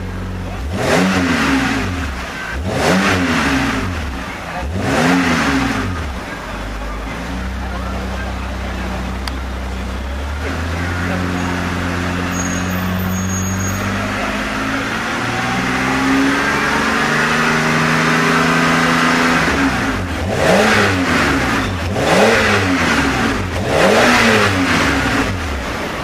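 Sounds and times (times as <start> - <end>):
car engine running: 0.0 - 26.0
engine throttle blips: 0.0 - 26.0.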